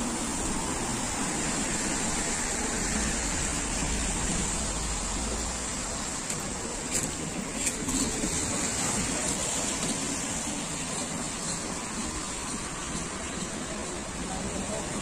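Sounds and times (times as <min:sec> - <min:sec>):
traffic on a wet road: 0:00.0 - 0:15.0.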